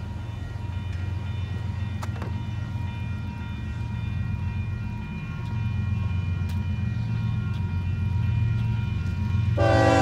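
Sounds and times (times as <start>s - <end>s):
locomotive engine rumble: 0.0s - 10.0s.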